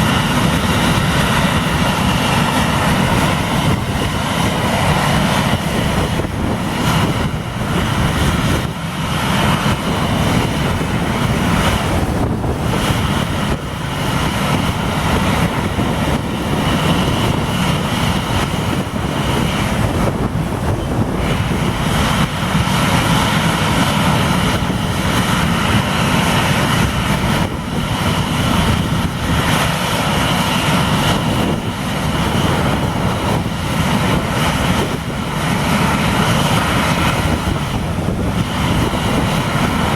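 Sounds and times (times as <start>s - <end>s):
airliner engines at takeoff: 0.0s - 39.9s.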